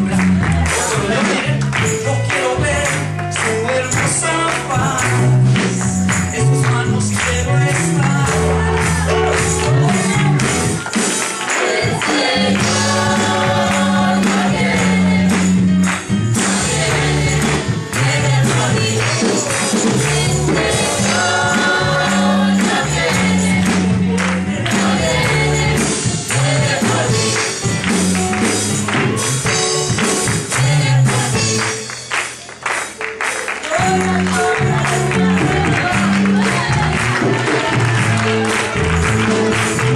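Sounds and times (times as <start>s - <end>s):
bass line: 0.0s - 10.9s, 11.9s - 32.4s, 33.7s - 39.9s
choir singing gospel song: 0.0s - 28.6s, 29.2s - 31.9s, 33.7s - 39.9s
percussion strokes: 3.5s - 39.9s.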